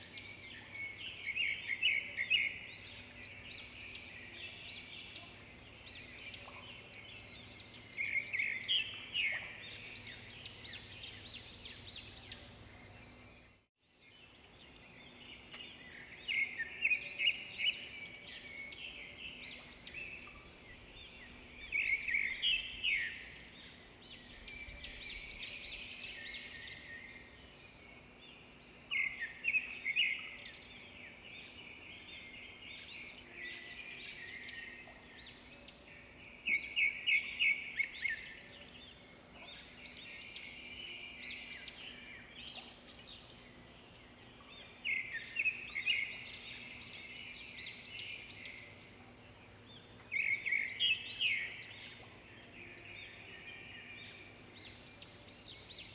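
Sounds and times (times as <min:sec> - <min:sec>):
loud bird song phrase: 0:00.0 - 0:55.9.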